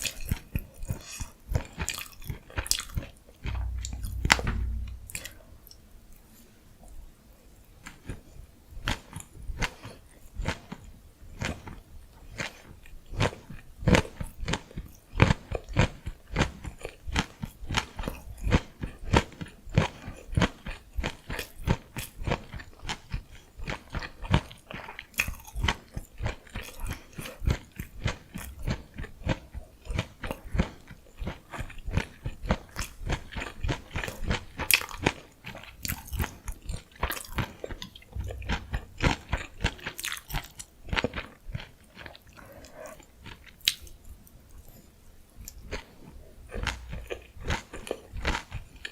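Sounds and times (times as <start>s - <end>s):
crunchy chewing: 0.0s - 4.2s, 8.8s - 48.9s.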